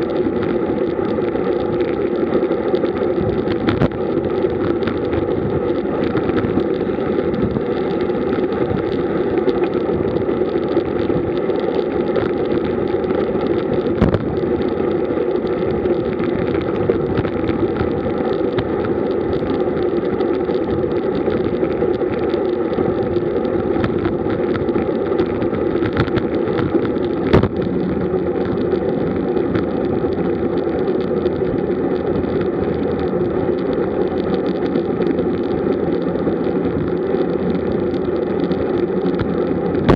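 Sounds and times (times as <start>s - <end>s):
bicycle tyre roar: 0.0s - 39.9s.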